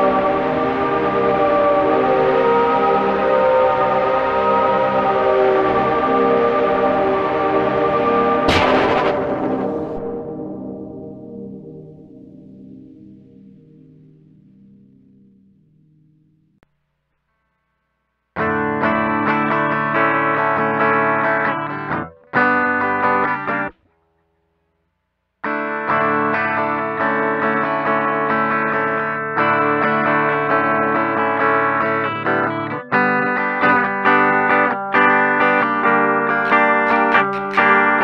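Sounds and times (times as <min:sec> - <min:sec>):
distorted electric guitar chords: 0:00.0 - 0:16.5, 0:18.4 - 0:23.8, 0:25.4 - 0:38.0.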